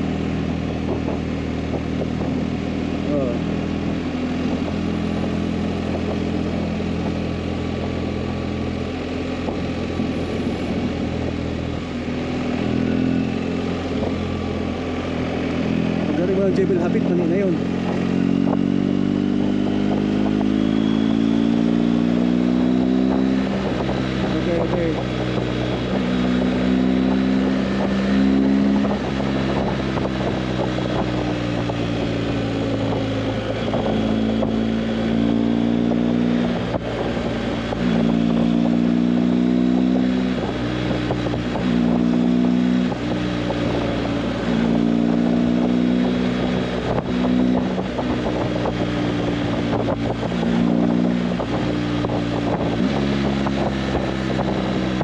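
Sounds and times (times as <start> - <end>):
motorcycle engine revving: 0.0 - 55.0
steady rushing noise: 0.0 - 55.0.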